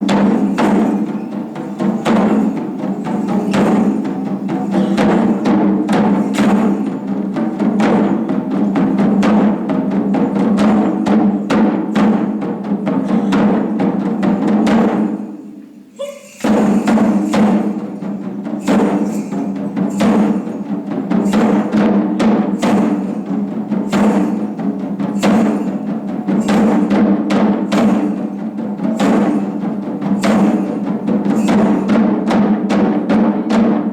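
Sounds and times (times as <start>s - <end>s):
taiko drums ensemble: 0.0s - 33.9s.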